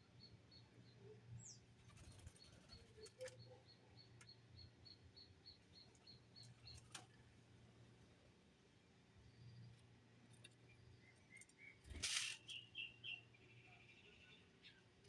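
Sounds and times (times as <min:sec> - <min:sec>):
small birds chirping: 0:00.0 - 0:07.3, 0:09.3 - 0:15.0.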